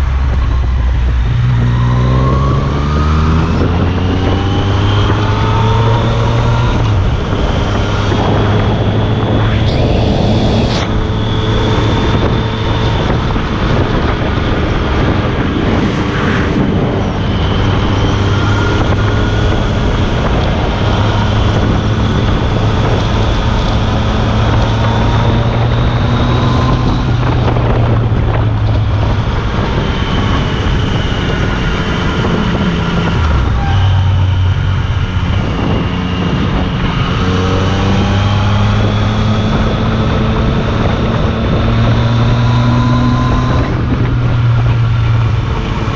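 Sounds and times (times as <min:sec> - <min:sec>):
motorcycle engine riding: 0:00.0 - 0:45.9.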